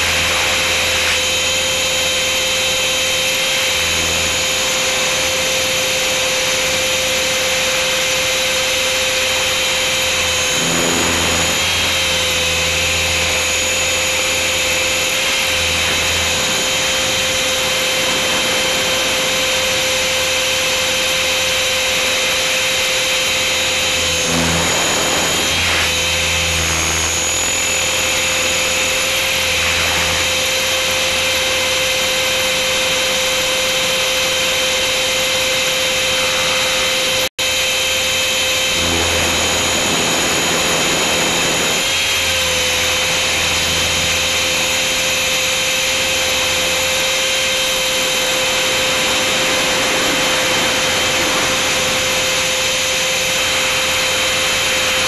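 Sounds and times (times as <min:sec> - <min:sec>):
helicopter motor whine: 0:00.0 - 0:55.0
rotor noise: 0:00.0 - 0:55.0.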